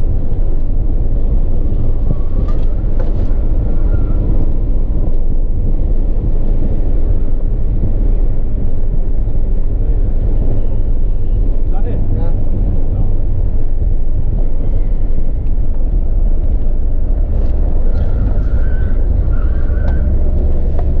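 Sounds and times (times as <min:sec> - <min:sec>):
car engine running: 0:00.0 - 0:21.0
road and wind noise: 0:00.0 - 0:21.0.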